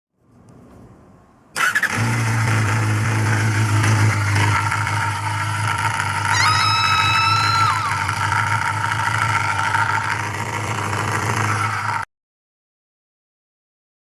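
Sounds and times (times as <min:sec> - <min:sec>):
motorcycle engine starting and idling: 0:00.2 - 0:12.0.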